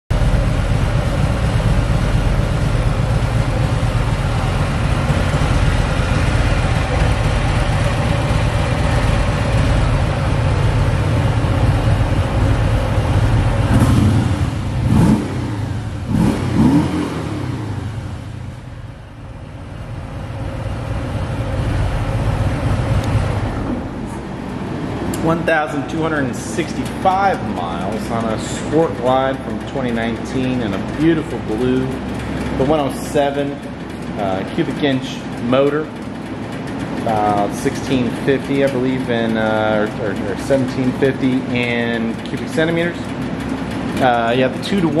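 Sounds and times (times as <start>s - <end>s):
motorcycle engine idling: 0.1s - 24.0s, 24.8s - 45.0s.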